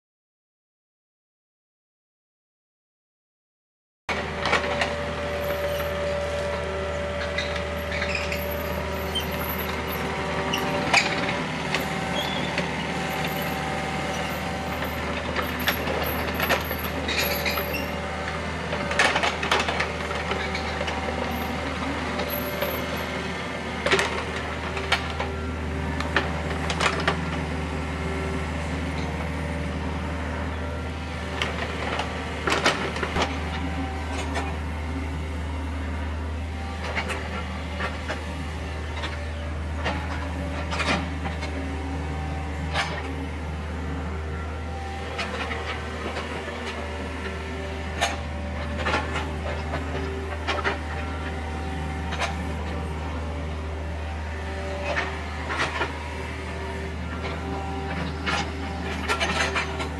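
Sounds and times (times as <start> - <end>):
excavator diesel engine droning: 4.1 - 59.9.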